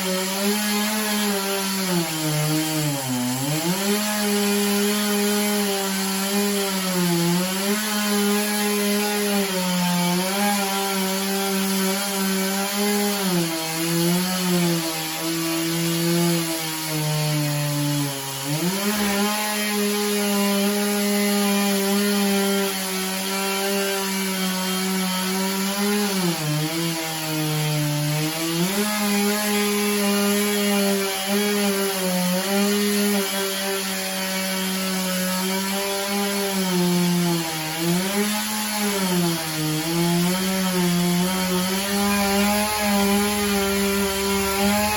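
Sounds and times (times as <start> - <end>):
chainsaw cutting log: 0.0 - 44.9.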